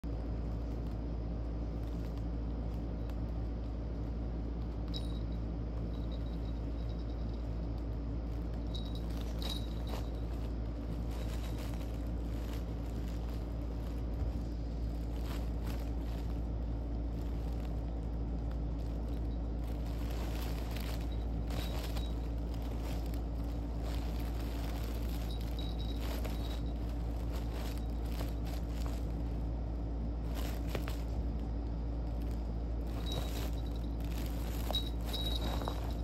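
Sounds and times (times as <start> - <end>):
fabric tunnel rustling: 0.0 - 36.0
steady low hum: 0.0 - 36.0.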